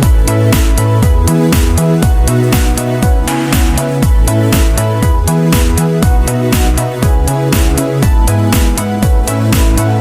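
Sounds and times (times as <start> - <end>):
electronic dance music: 0.0 - 8.8.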